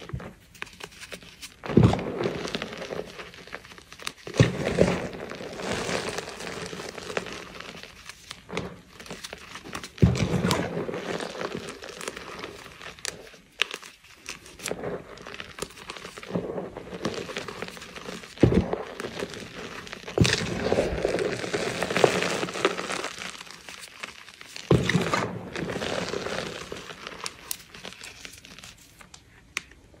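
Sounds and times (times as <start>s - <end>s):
hands crushing powdery chalk: 0.0s - 29.8s.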